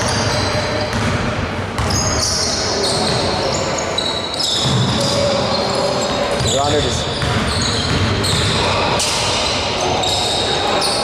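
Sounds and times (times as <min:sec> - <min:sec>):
shoes squeaking on floor: 0:01.8 - 0:11.0.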